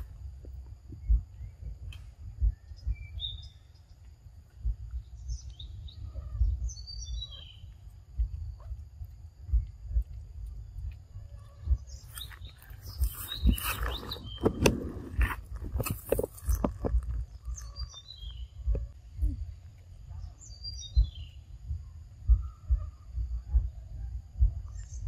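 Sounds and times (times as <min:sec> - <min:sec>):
high insect drone: 0:00.0 - 0:24.8
birds chirping: 0:00.0 - 0:25.0.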